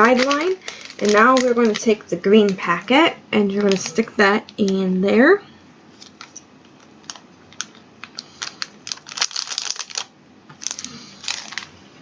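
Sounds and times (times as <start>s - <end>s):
plastic packet crinkling: 0.0s - 2.8s, 3.4s - 4.8s, 5.9s - 11.8s.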